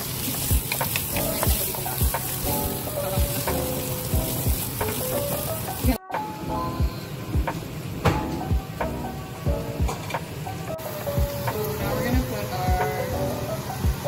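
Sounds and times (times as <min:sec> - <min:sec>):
vegetables sizzling in oil: 0:00.0 - 0:06.0, 0:07.6 - 0:14.0.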